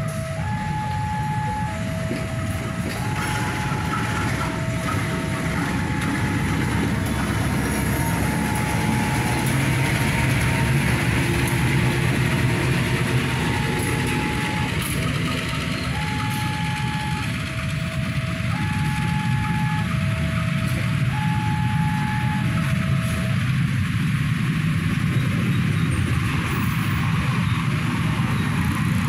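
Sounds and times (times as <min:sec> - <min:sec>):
two-tone warning signal: 0:00.0 - 0:23.8
train rumbling along tracks: 0:00.0 - 0:29.0.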